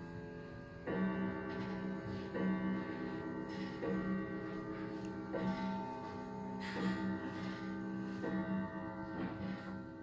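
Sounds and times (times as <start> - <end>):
clock chime striking: 0.0 - 10.0.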